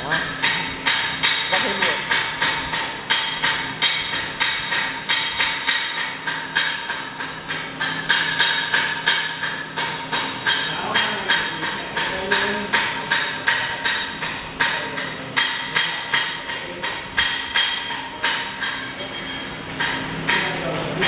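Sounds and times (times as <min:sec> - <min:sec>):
hammer striking steel plate: 0:00.0 - 0:21.0.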